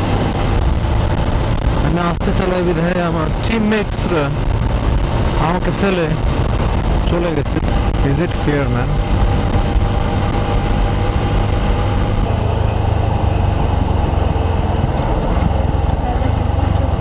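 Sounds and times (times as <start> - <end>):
motorcycle engine and road noise: 0.0 - 17.0
wind rush on microphone: 0.0 - 17.0.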